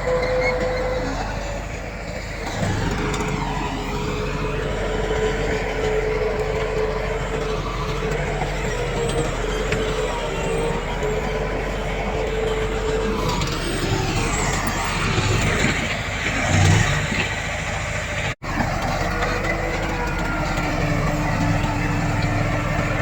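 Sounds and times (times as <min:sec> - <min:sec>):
diesel engine whine: 0:00.0 - 0:23.0.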